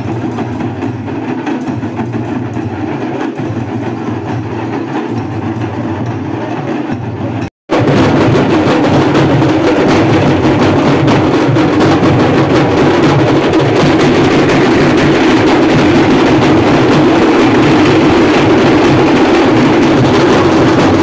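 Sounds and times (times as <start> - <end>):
large drums beaten with sticks: 0.0 - 21.0.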